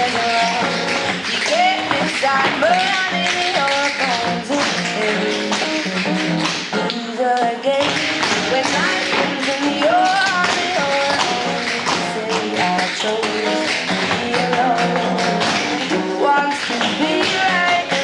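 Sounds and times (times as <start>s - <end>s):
soul-pop song with woman singing: 0.0s - 5.8s, 6.7s - 18.0s
tap shoes clicking: 0.0s - 18.0s.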